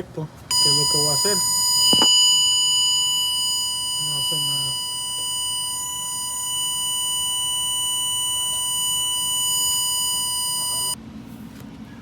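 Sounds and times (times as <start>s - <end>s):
high-pitched electronic beep: 0.5s - 11.0s.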